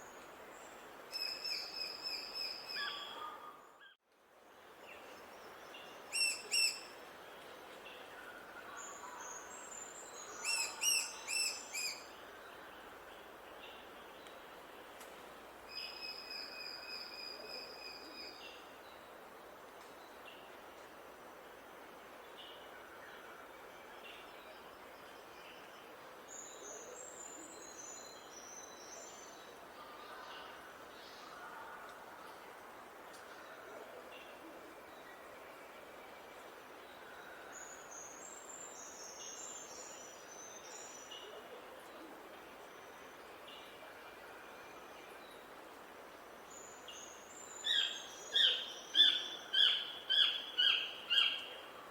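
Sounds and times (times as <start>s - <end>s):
background hiss: 0.0s - 51.9s.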